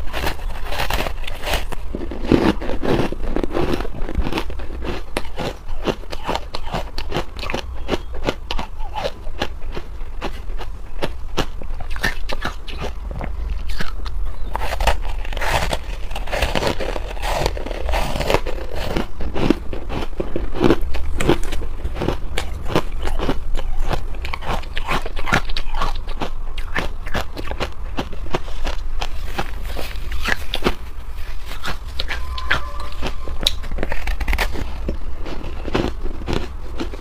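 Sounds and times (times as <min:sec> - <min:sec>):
chewing ice crunching: 0:00.0 - 0:37.0
steady low hum: 0:00.0 - 0:37.0.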